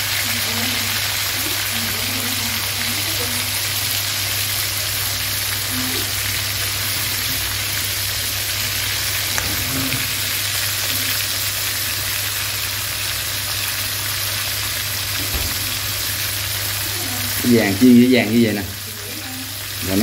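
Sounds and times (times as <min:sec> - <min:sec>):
meat sizzling in hot oil: 0:00.0 - 0:20.0.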